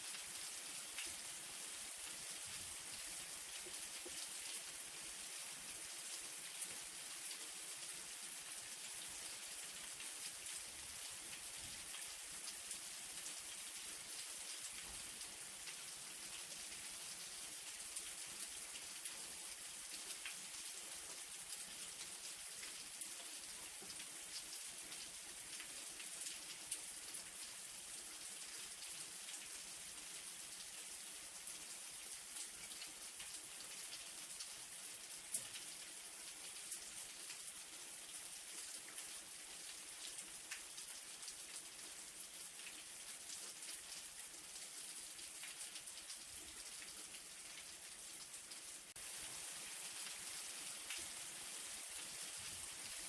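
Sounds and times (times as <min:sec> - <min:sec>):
light rain hiss: 0:00.0 - 0:53.0
raindrops ticking on a surface: 0:00.0 - 0:53.0.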